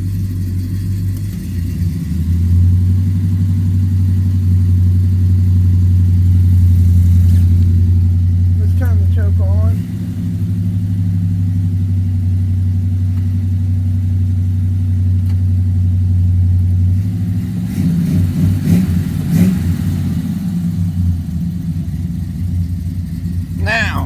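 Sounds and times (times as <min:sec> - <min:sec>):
pickup truck engine idling: 0:00.0 - 0:17.6, 0:18.3 - 0:24.0.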